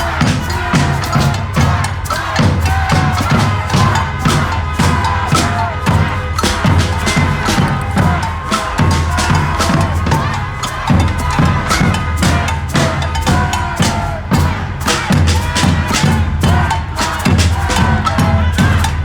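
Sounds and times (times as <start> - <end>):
crowd voices: 0.0 - 19.0
drums beating: 0.0 - 19.0.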